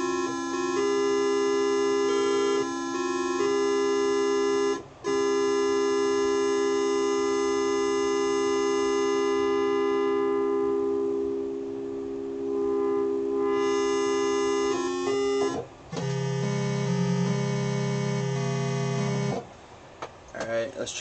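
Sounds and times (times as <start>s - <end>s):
synthesizer chord: 0.0s - 19.5s.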